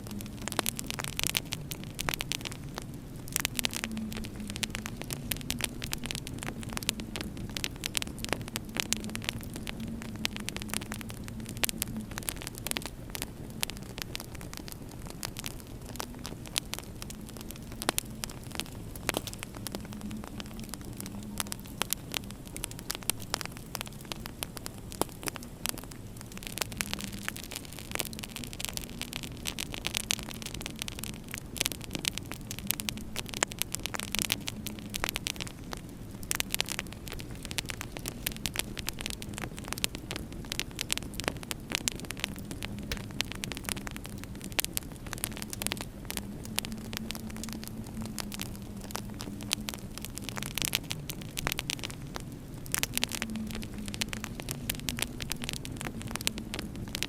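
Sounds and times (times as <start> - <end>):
low steady hum: 0.0 - 57.0
wood fire crackling and popping: 0.0 - 57.0.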